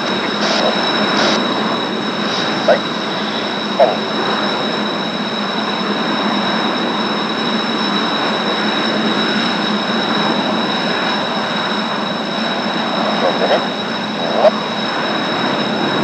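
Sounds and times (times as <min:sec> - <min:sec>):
jet engines idling: 0:00.0 - 0:16.0.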